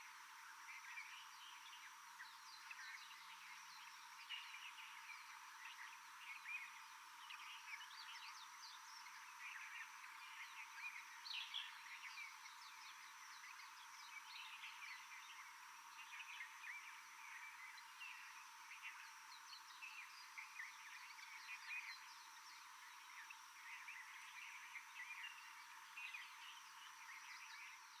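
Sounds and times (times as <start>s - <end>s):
steady high whine: 0.0s - 28.0s.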